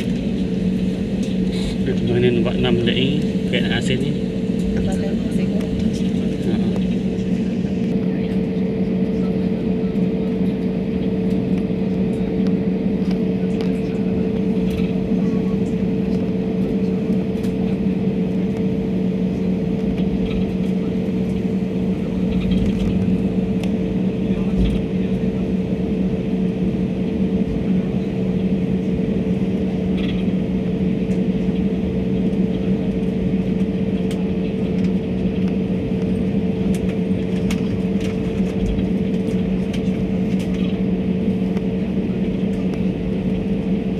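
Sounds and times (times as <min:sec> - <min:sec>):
jet airliner cabin drone: 0:00.0 - 0:43.9.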